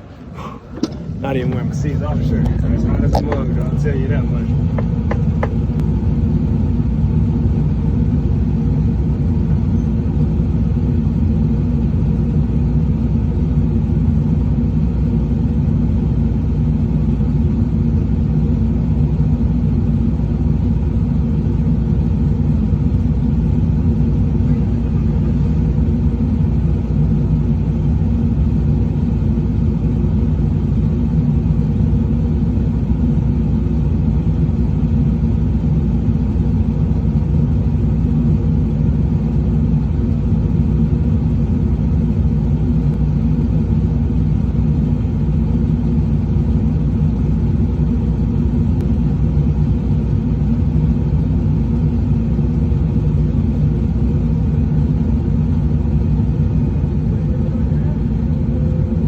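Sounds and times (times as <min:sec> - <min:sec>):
truck engine running steadily: 0:00.0 - 0:59.0.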